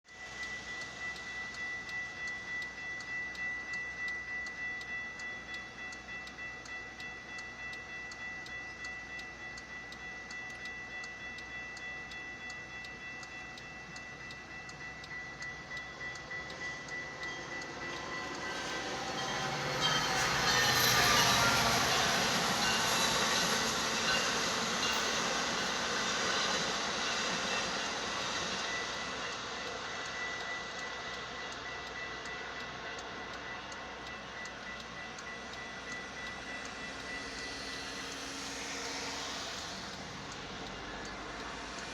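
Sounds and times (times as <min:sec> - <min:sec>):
crossing bell ringing: 0:00.1 - 0:41.9
train passing on rails: 0:00.1 - 0:41.9.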